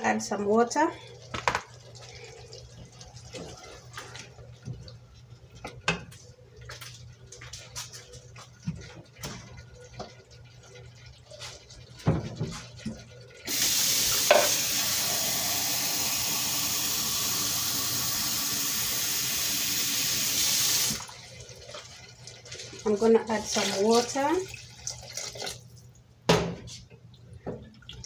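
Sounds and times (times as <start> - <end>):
tap water running: 0.0 - 6.8, 7.4 - 25.7.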